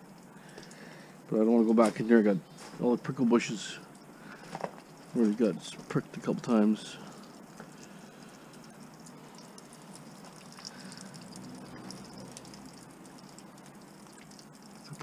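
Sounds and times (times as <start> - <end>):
small ticks and crackles: 0.0 - 1.2, 1.8 - 15.0.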